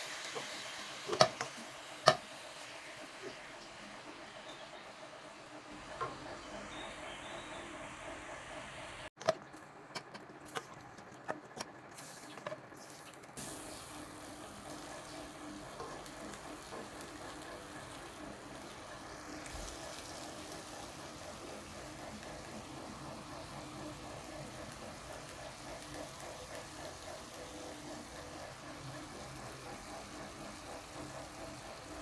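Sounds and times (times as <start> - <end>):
pork sizzling in a wok: 0.0 - 5.8, 12.0 - 32.0.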